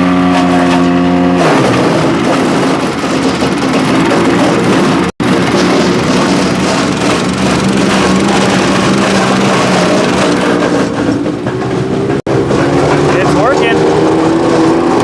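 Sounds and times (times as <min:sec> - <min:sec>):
wood chipper engine running: 0:00.0 - 0:15.0.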